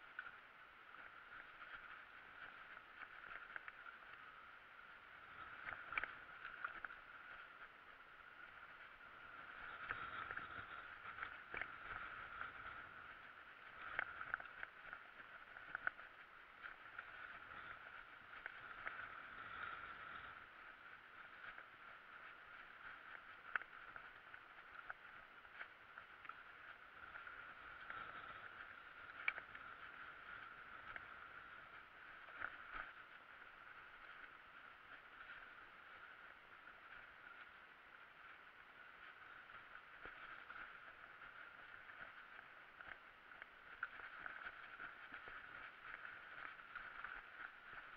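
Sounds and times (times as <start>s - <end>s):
bike rolling on dirt trail: 0.0s - 47.9s.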